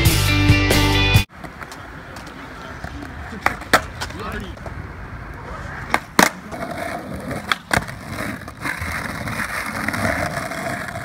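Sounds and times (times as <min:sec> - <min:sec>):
skateboard wheels on asphalt: 0:01.2 - 0:11.0
skateboard clacks: 0:01.3 - 0:11.0.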